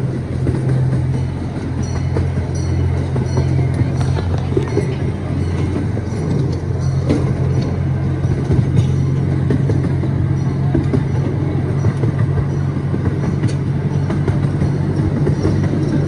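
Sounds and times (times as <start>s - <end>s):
miniature train drone: 0.0s - 16.0s
train cars rattling on track: 0.0s - 16.0s.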